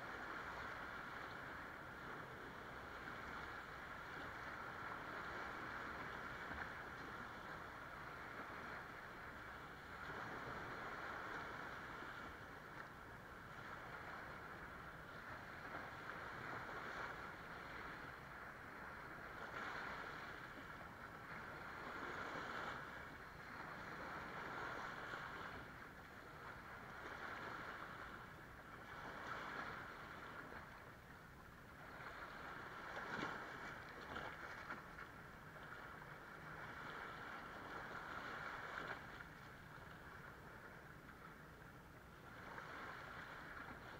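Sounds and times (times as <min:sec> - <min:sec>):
small waves washing on sand: 0:00.0 - 0:43.9.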